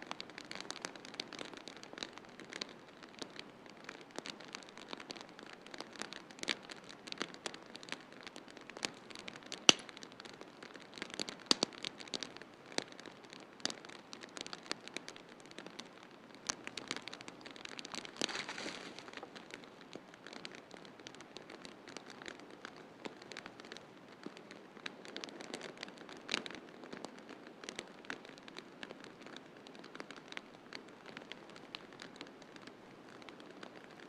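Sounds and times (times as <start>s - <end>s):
soft fire hiss: 0.0s - 34.0s
wood fire pops and snaps: 4.0s - 34.0s.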